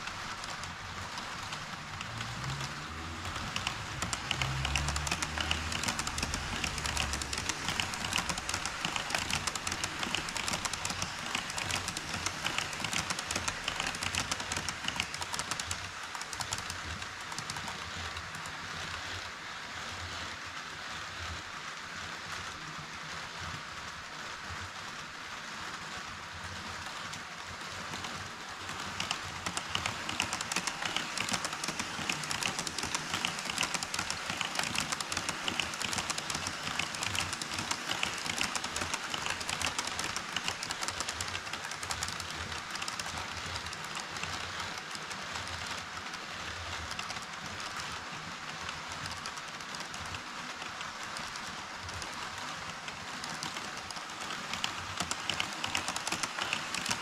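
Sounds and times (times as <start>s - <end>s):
model train rolling rattle: 0.0s - 57.0s.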